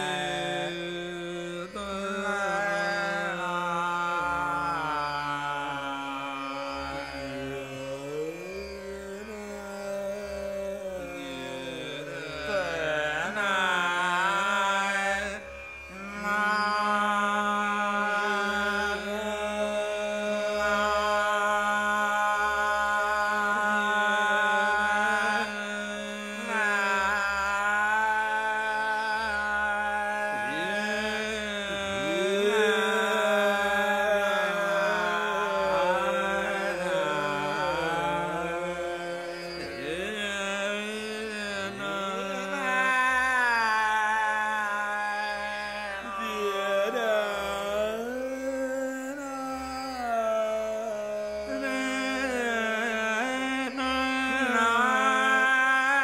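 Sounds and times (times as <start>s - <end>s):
man singing slow glides: 0.0s - 8.3s, 10.8s - 56.0s
tanpura drone: 0.0s - 56.0s.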